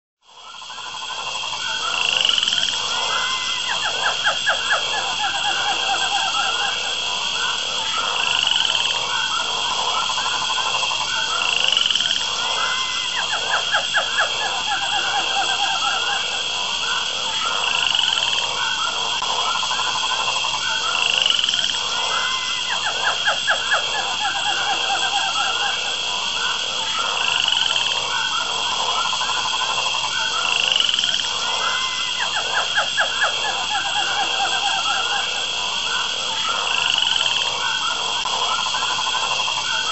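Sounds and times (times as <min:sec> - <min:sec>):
frogs croaking: 0:00.2 - 0:39.9
high-pitched insect drone: 0:00.2 - 0:39.9.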